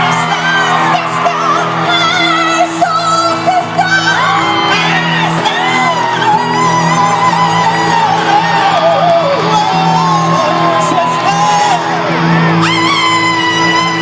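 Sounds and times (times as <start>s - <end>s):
crowd singing and whooping: 0.0s - 14.0s
live band playing: 0.0s - 14.0s.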